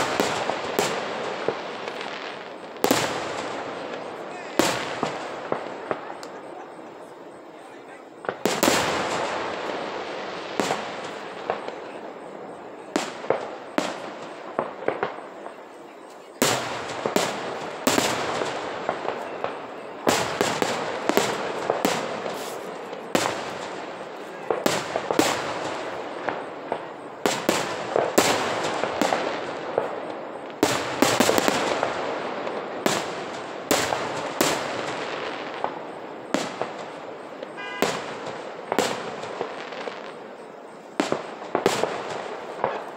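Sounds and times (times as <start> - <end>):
firework shells bursting with echo: 0.0 - 42.9.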